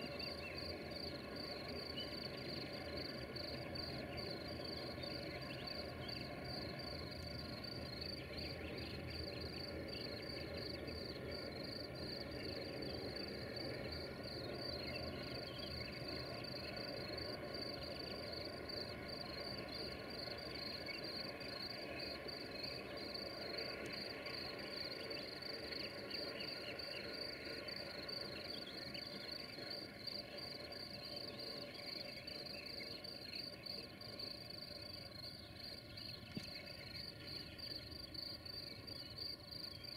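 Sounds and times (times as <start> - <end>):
distant train engine drone: 0.0 - 39.9
insects chirping: 0.0 - 39.9.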